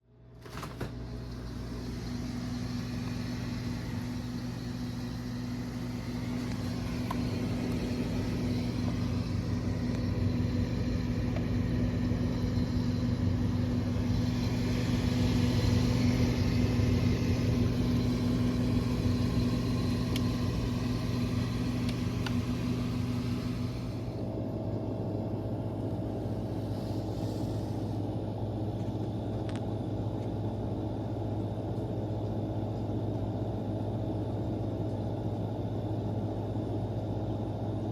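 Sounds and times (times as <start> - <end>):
refrigerator compressor humming: 0.0 - 37.9.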